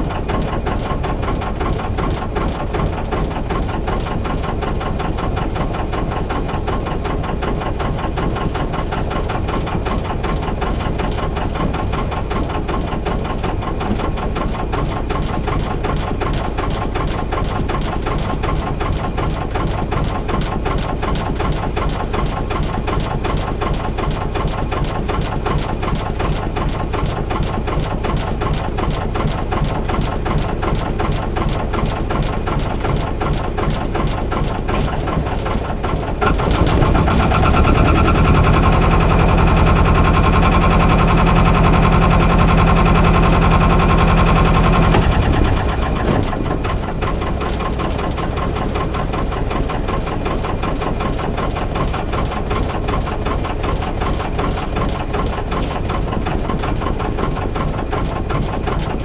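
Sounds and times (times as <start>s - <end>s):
marine engine running: 0.0s - 59.0s.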